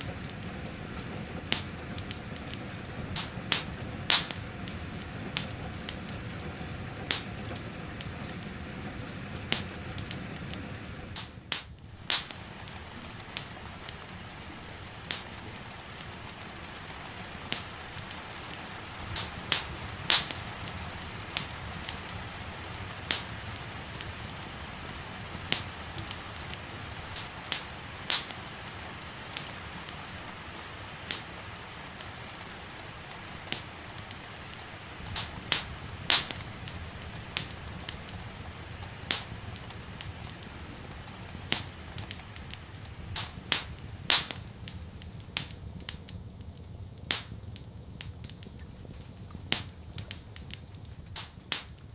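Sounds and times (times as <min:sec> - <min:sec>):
fire crackling and popping: 0:00.0 - 0:51.9
soft hiss of rain: 0:00.0 - 0:51.9.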